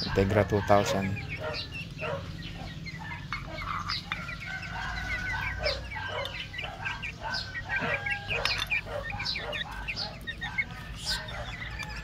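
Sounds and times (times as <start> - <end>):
chickens peeping and clucking: 0.0 - 12.0.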